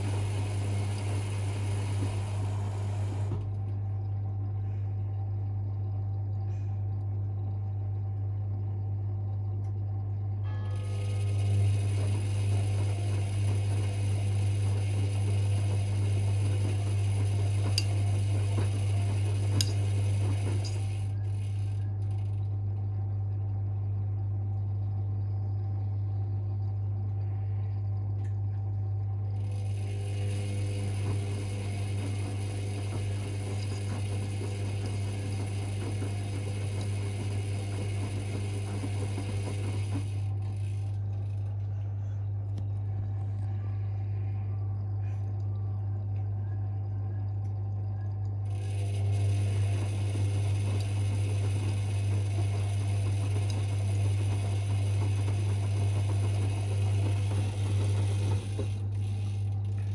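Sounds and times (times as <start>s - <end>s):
steady low hum: 0.0s - 59.9s
washing machine drum whining: 0.0s - 59.9s.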